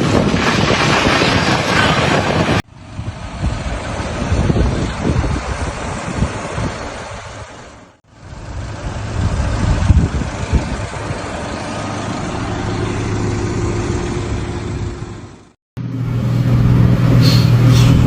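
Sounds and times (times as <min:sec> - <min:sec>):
loud rough noise: 0:00.0 - 0:18.0
vehicle engine running: 0:02.7 - 0:18.0.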